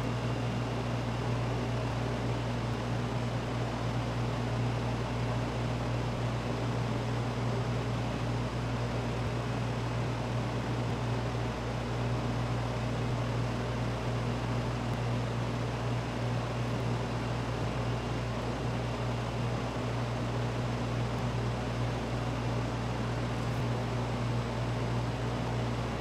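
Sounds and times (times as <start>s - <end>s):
machine hum with fan noise: 0.0s - 26.0s.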